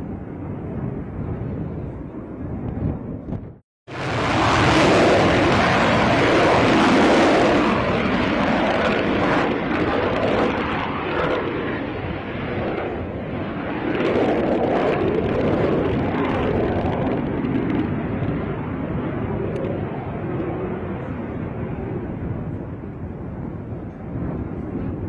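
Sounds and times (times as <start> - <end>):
fighter jet taking off: 0.1 - 25.0.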